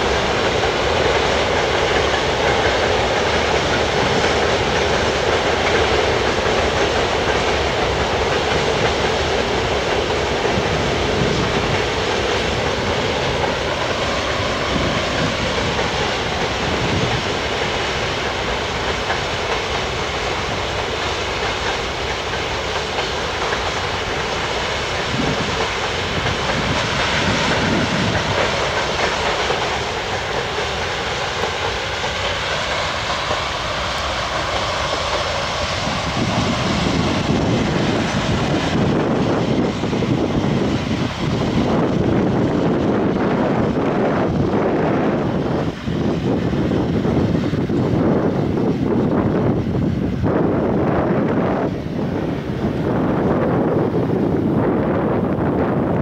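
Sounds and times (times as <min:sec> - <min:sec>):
freight train wheels rattling on rails: 0:00.0 - 0:56.0.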